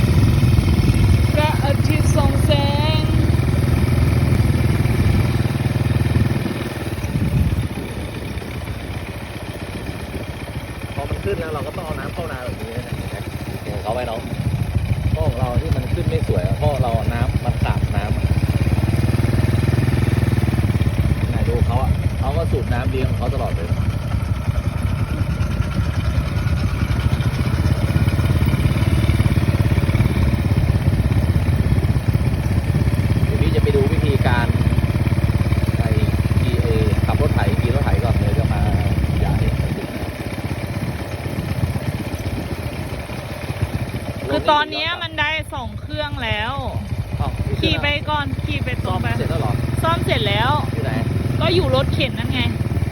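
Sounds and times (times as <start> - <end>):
small engine running: 0.0 - 52.9.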